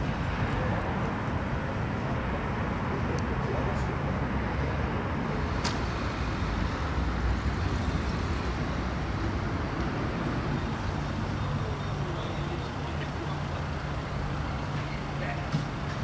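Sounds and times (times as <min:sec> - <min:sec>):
road traffic noise: 0:00.0 - 0:16.0
vehicle engine humming: 0:00.0 - 0:16.0.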